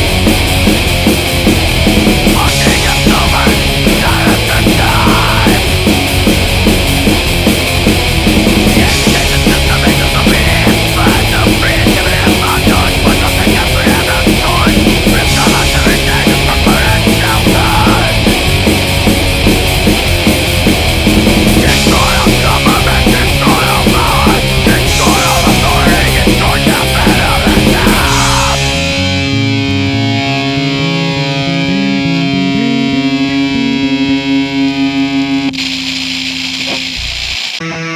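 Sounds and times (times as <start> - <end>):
distorted electric guitar: 0.0 - 37.9
heavy rock band playing: 0.0 - 37.9.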